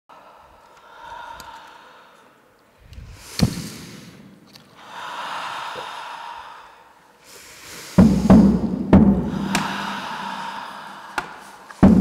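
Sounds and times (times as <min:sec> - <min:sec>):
breathy whooshing swells: 0:00.1 - 0:12.0.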